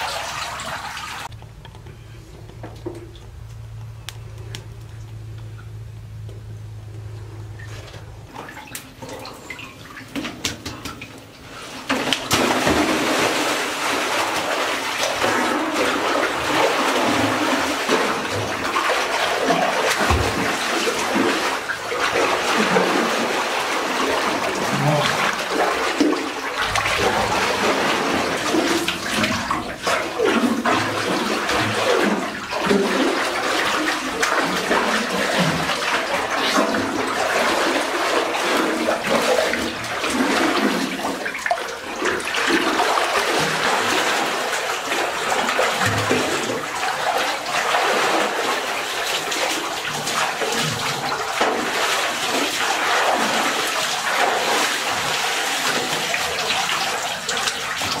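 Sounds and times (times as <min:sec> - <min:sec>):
water churning and splashing: 0:00.0 - 0:01.3, 0:07.5 - 0:58.0.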